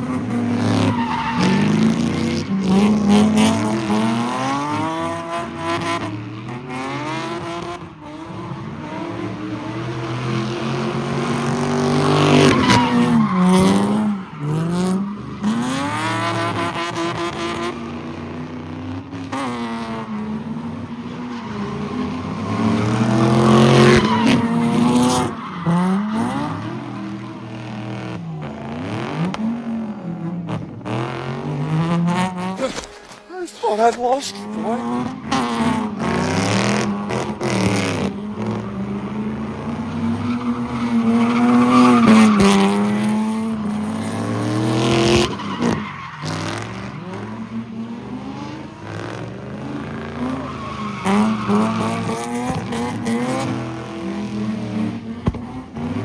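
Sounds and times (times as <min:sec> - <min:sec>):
car engine revving hard: 0:00.0 - 0:20.9, 0:21.6 - 0:32.6, 0:34.4 - 0:56.0
tire squeal: 0:00.0 - 0:30.1, 0:34.3 - 0:56.0.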